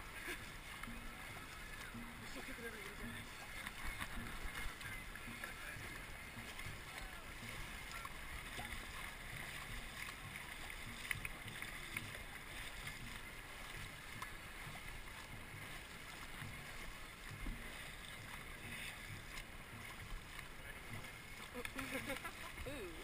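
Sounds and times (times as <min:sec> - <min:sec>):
paddles dipping and splashing: 0:00.0 - 0:23.0
water rushing along hull: 0:00.0 - 0:23.0.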